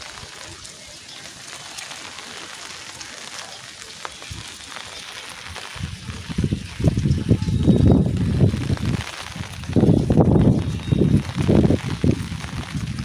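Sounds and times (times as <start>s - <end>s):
drip ticks: 0.0s - 13.0s
light drizzle hissing: 0.0s - 13.0s.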